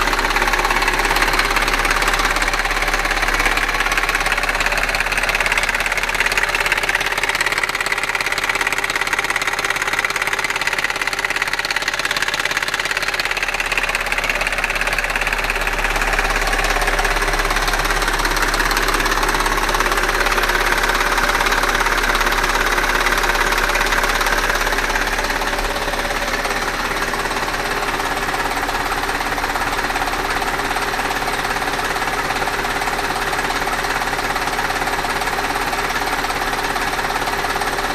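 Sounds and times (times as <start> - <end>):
car engine clattering and knocking: 0.0 - 37.9.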